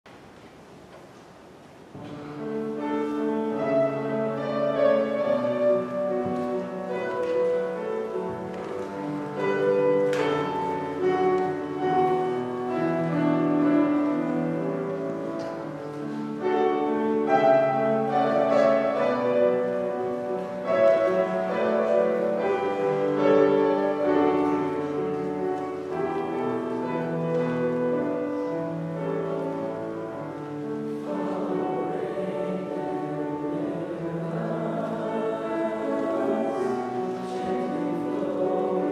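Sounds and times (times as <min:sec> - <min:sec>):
slow piano piece: 0:00.1 - 0:38.9.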